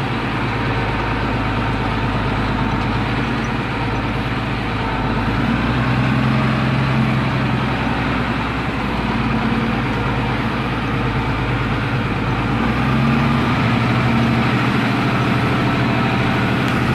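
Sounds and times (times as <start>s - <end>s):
tractor diesel engine drone: 0.0s - 16.9s.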